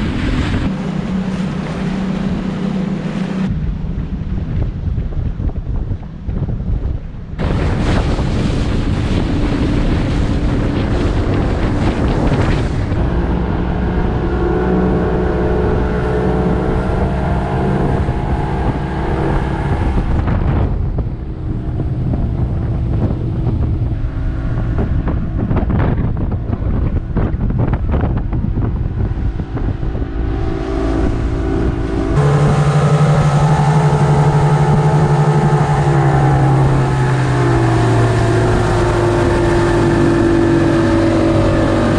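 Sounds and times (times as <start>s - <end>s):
outboard engine running fast: 0.0s - 41.9s
wind buffeting microphone: 0.0s - 41.9s.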